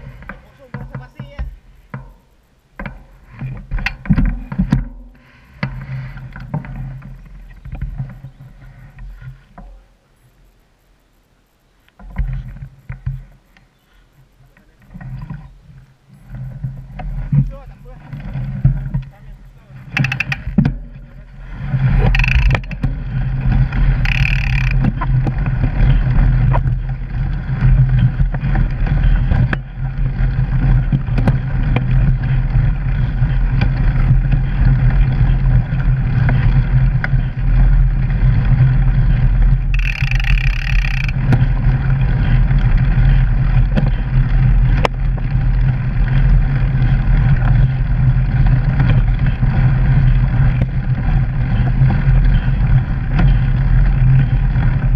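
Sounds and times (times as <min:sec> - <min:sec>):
bike riding noise rumble: 0:00.0 - 0:54.9.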